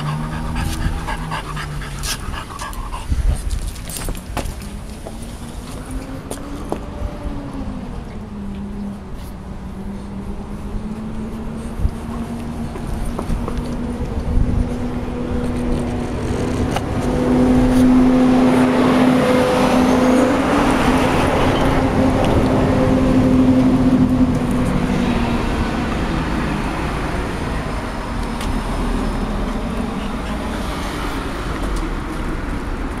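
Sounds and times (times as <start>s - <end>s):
vehicle engine passing by: 0.0s - 3.0s, 4.6s - 33.0s.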